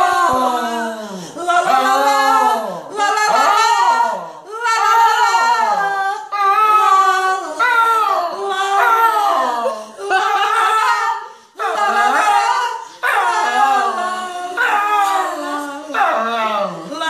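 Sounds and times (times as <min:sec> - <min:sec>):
woman singing: 0:00.0 - 0:17.0
dog howling: 0:01.6 - 0:17.0.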